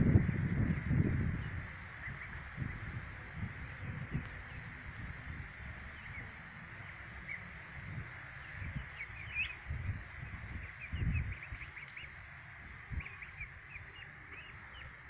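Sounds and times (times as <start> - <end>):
small birds chirping: 0.0 - 15.0
steady hiss: 0.0 - 15.0
wind rumbling on microphone: 0.0 - 15.0.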